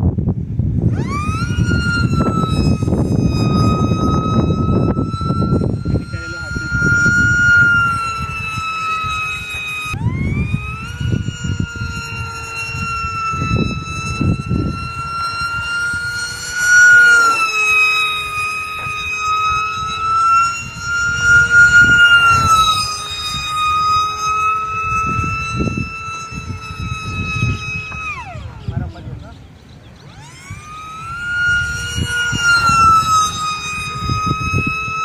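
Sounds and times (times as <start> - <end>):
rc plane motor whining: 0.0 - 35.0
wind rumbling on microphone: 0.0 - 35.0.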